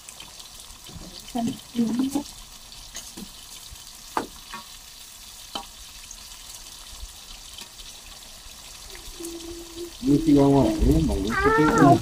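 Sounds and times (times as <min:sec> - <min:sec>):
food frying in hot oil: 0:00.0 - 0:12.0.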